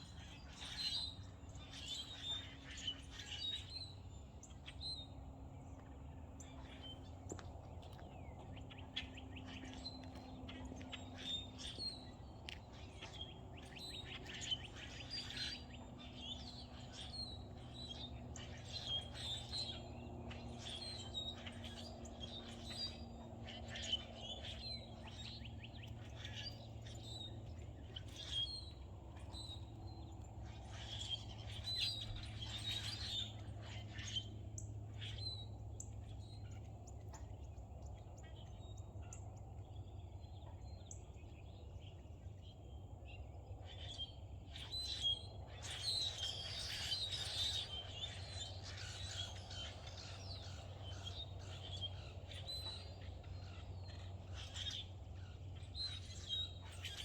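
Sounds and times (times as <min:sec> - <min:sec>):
songbirds chirping: 0:00.0 - 0:57.0
steady low hum: 0:00.0 - 0:57.0.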